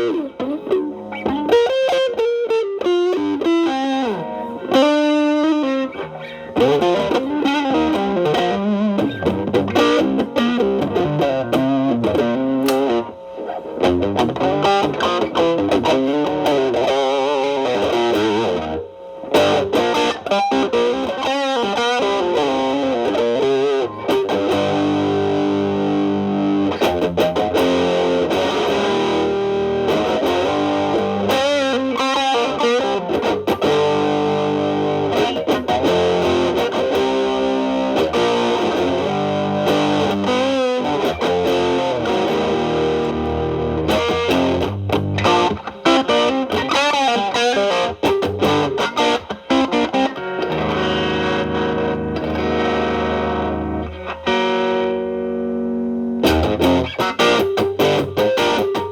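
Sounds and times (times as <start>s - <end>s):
distorted electric guitar lead: 0.0s - 58.9s
guitar chord ringing: 0.0s - 58.9s.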